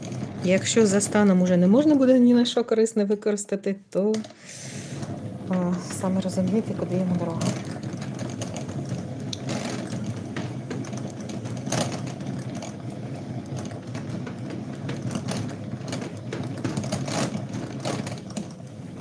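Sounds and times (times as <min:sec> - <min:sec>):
yarn winder whirring: 0:00.0 - 0:02.4, 0:04.1 - 0:19.0.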